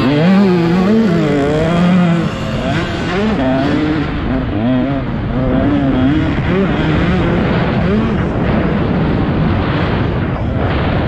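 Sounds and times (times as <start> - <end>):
dirt bike engine racing: 0.0 - 11.0
track noise: 0.0 - 11.0
wind: 0.0 - 11.0.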